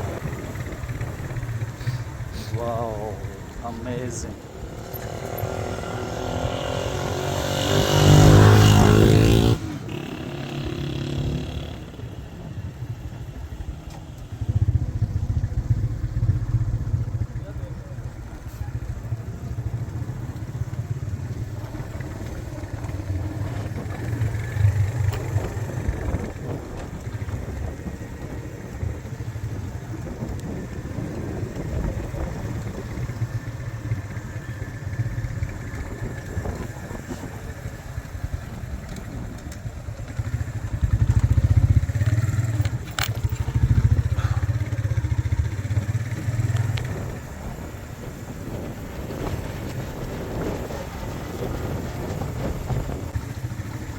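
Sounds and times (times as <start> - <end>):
vehicle rumble: 0.0 - 53.9.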